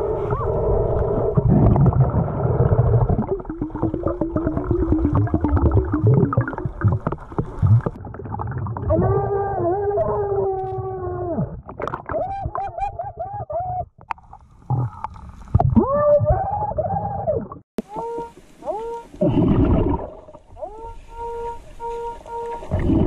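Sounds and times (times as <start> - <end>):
exhaled bubbles rumbling: 0.0 - 21.7, 22.5 - 23.0.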